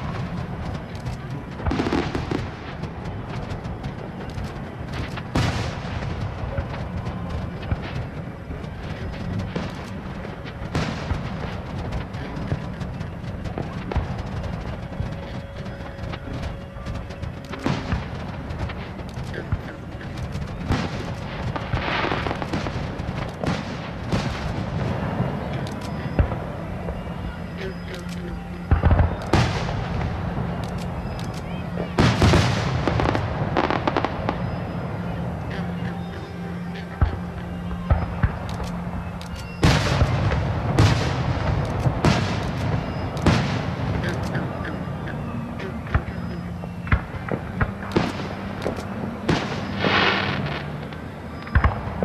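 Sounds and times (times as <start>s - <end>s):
fireworks booming: 0.0s - 52.0s
fireworks crackling hiss: 0.0s - 52.0s.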